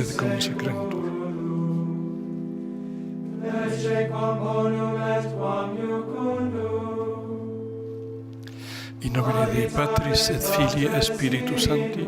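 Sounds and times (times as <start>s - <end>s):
slow liturgical chant: 0.0s - 12.0s.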